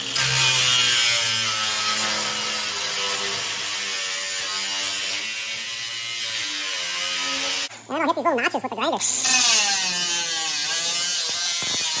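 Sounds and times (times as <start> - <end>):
angle grinder cutting steel: 0.0 - 7.7, 9.0 - 12.0.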